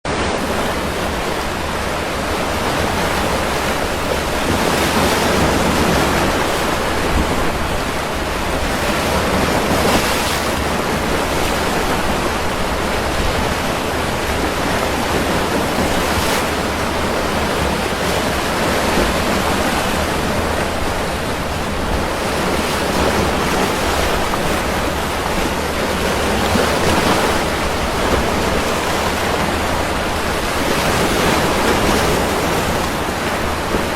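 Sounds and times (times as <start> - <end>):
waves breaking: 0.1 - 33.9.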